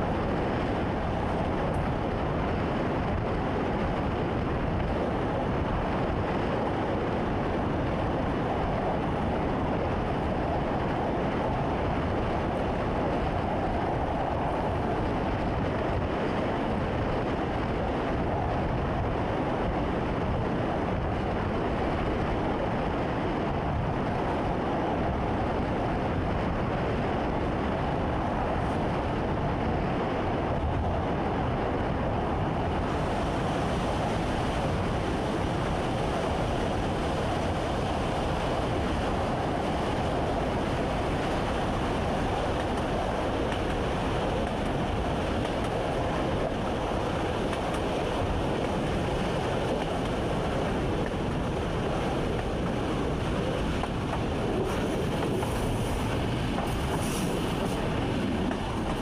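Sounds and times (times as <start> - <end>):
train rumble and hiss in cab: 0.0 - 59.0.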